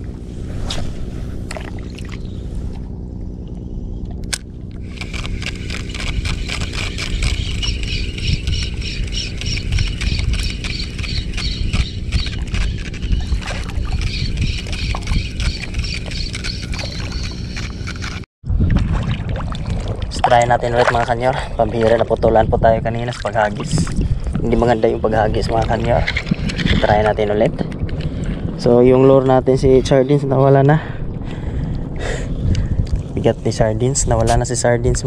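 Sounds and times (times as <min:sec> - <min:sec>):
low rumble: 0:00.0 - 0:35.0.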